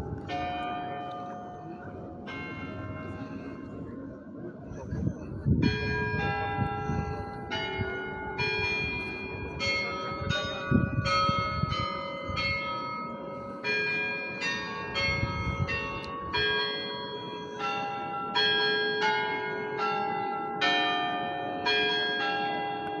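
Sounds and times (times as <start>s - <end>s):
church bells playing slow tune: 0.0s - 4.3s, 5.5s - 23.0s.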